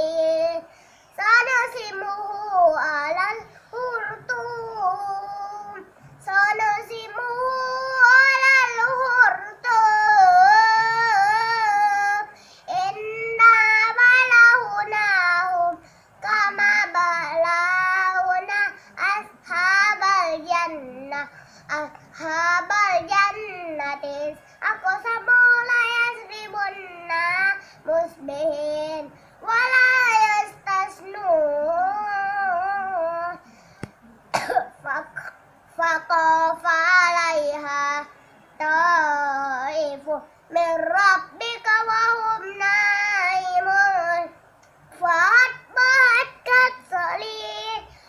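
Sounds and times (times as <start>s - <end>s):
child chanting melodically: 0.0s - 33.6s, 34.8s - 48.0s.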